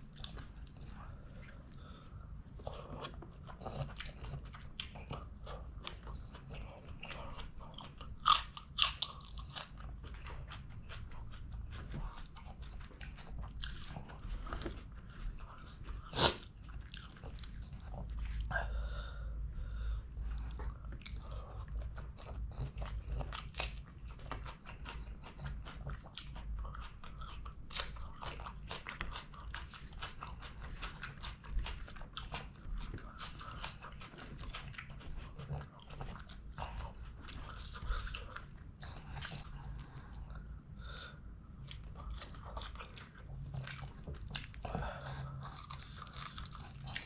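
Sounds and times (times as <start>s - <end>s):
chewing and wet mouth sounds: 0.0s - 47.0s.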